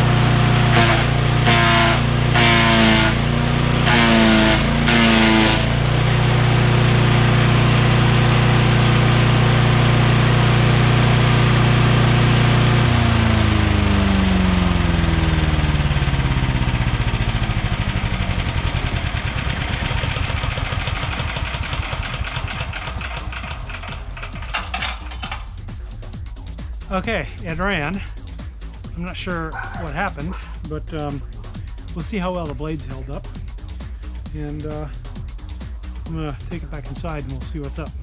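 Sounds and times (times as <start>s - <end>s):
small gasoline engine running: 0.0s - 38.0s.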